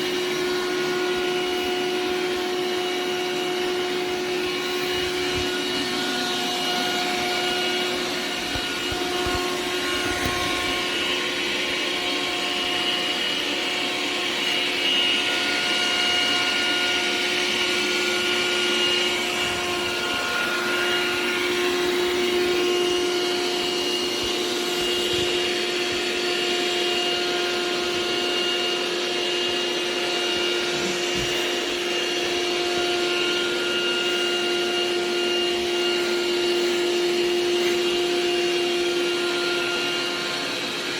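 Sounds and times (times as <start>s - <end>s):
robot vacuum motor whining: 0.0s - 40.9s.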